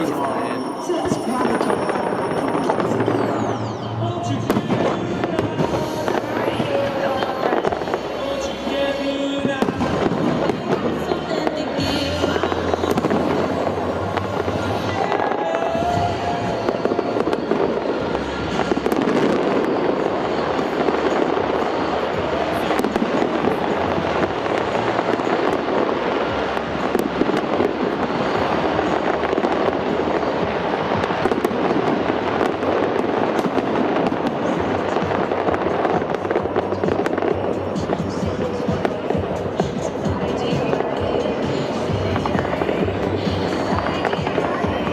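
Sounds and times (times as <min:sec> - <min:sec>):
fireworks crackling and popping: 0:00.0 - 0:44.9
music soundtrack: 0:00.0 - 0:44.9.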